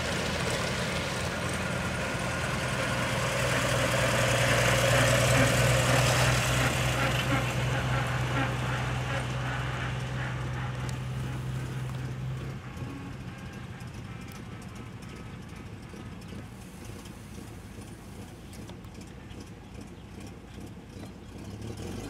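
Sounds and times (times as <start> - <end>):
tractor engine driving past: 0.0 - 22.0.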